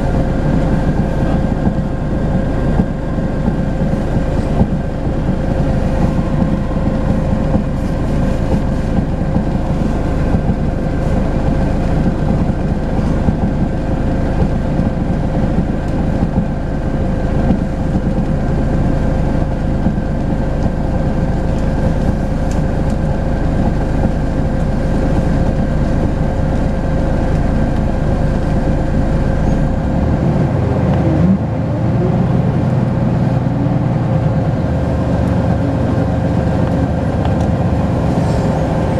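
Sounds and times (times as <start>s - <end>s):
bus engine rumble: 0.0s - 38.9s
drivetrain whine: 0.0s - 38.9s.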